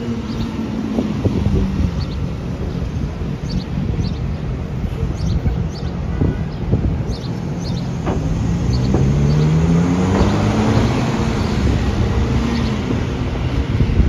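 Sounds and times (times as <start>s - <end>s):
bus engine accelerating: 0.0s - 14.0s
city traffic rumble: 0.0s - 14.0s.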